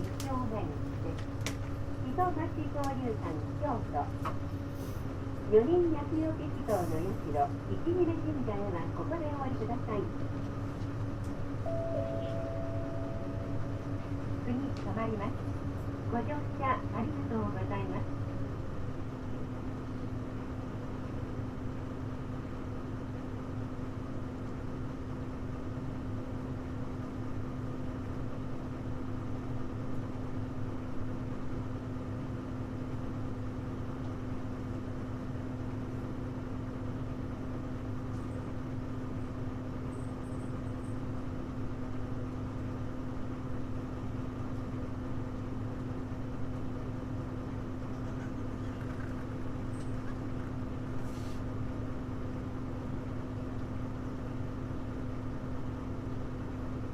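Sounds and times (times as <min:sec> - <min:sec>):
bus diesel engine drone: 0:00.0 - 0:56.9.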